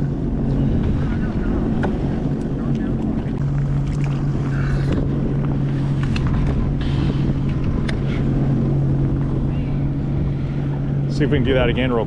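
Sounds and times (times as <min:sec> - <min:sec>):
watercraft engine idling: 0:00.0 - 0:12.0.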